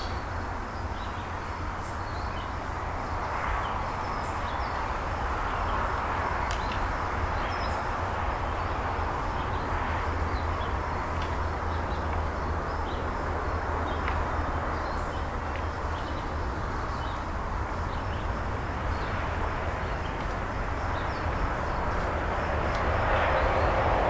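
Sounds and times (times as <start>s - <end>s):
outdoor background rumble: 0.0s - 24.0s.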